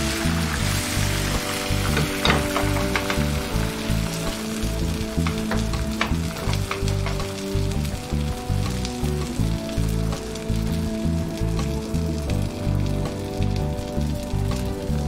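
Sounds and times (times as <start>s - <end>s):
background music: 0.0s - 15.0s
eggs sizzling in a pan: 0.0s - 15.0s.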